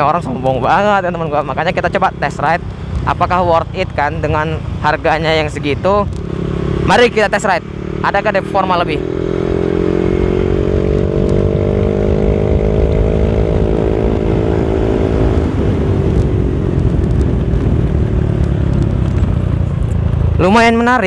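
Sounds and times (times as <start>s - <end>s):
scooter engine pulling hard: 0.0s - 20.8s
wind and road rushing: 0.0s - 21.0s.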